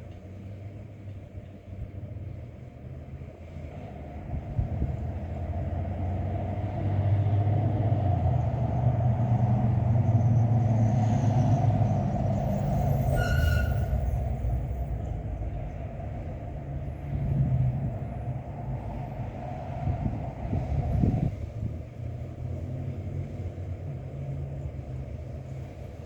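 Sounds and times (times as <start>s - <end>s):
wind gusting over microphone: 3.7s - 26.0s.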